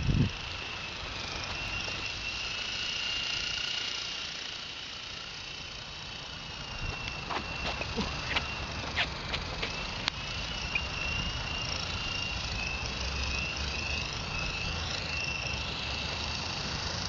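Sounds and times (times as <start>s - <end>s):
rc helicopter motor whine: 0.0s - 17.0s.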